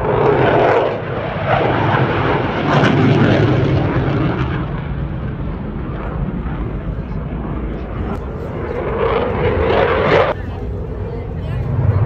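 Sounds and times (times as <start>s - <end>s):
fighter jet engines roaring: 0.0s - 12.0s.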